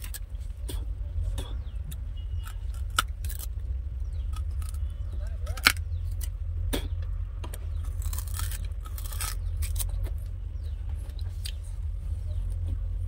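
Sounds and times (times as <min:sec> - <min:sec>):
sugarcane crunching and tearing: 0:00.0 - 0:12.6.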